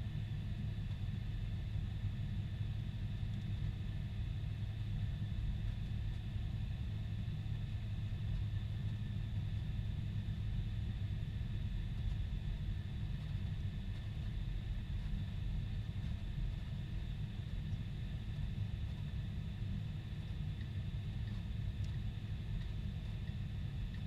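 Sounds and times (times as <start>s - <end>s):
airplane cabin engine rumble: 0.0s - 24.0s
faint constant whine: 0.0s - 24.0s.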